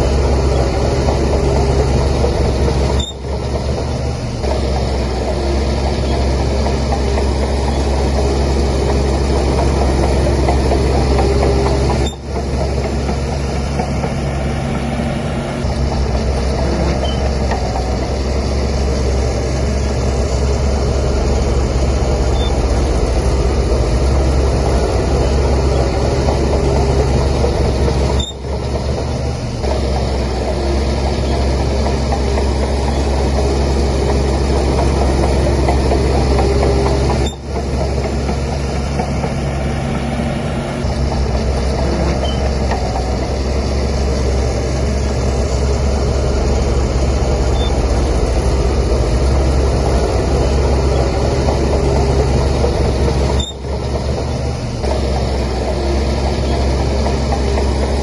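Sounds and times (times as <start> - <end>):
bulldozer engine rumbling: 0.0 - 58.0.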